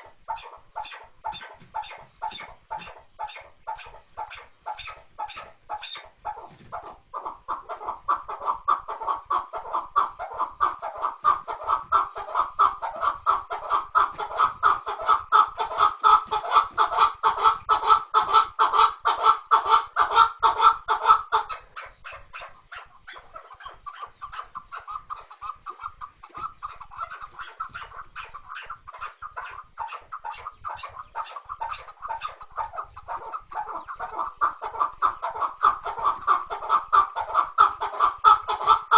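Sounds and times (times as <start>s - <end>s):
partridge clucking calls: 0.0s - 38.9s.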